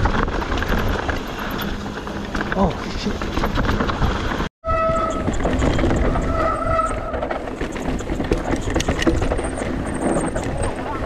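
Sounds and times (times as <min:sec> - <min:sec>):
bike rattling over rock: 0:00.0 - 0:11.0.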